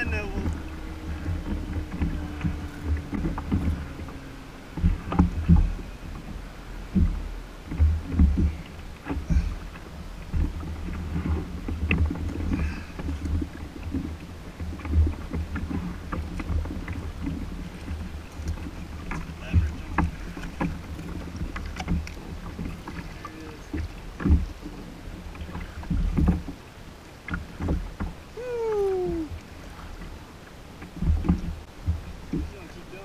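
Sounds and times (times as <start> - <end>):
water lapping against kayak hull: 0.0 - 33.0
wind rumble on microphone: 0.0 - 33.0.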